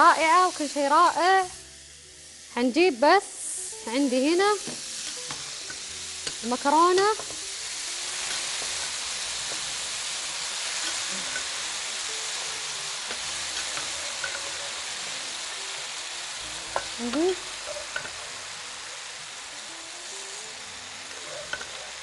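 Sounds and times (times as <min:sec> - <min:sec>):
pasta sizzling in a frying pan: 0:00.0 - 0:22.0.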